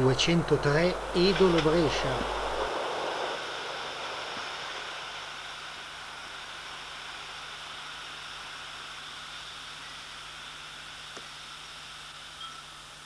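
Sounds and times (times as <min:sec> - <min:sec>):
faint low hum: 0:00.0 - 0:13.0
steady hiss: 0:00.0 - 0:13.0.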